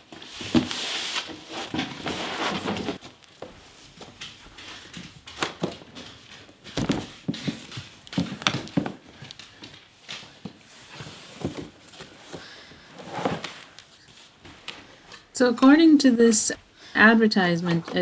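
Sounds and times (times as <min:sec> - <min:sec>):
cardboard and plastic handling: 0:00.0 - 0:15.9.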